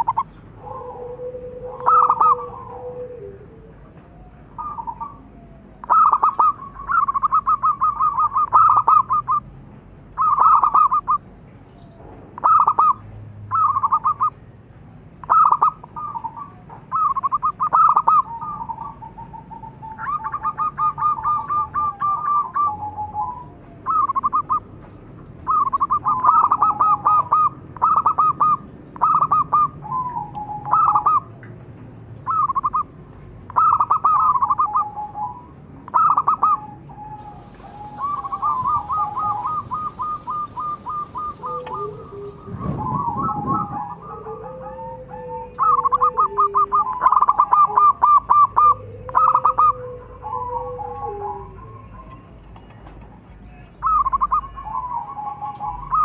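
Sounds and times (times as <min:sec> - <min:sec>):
dove cooing: 0:00.0 - 0:09.4, 0:10.2 - 0:11.2, 0:12.4 - 0:14.3, 0:15.2 - 0:24.7, 0:25.5 - 0:31.3, 0:33.5 - 0:52.4, 0:53.8 - 0:56.0.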